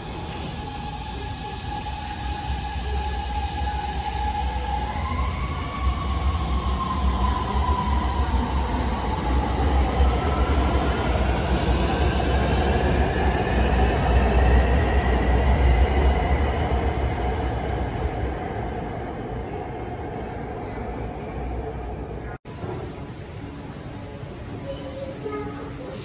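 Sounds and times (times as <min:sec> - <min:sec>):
subway train accelerating: 0:00.0 - 0:26.0.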